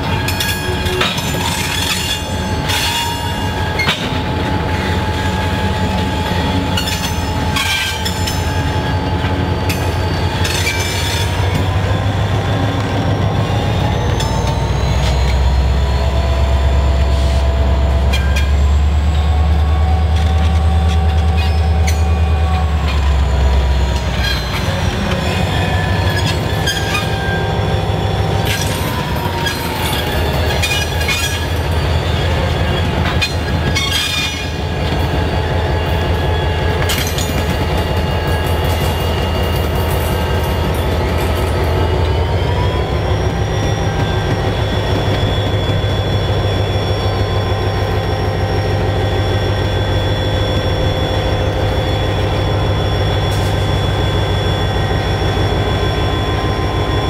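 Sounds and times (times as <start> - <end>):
locomotive engines rumbling: 0.0 - 57.0
wheel flange squeals: 0.0 - 57.0.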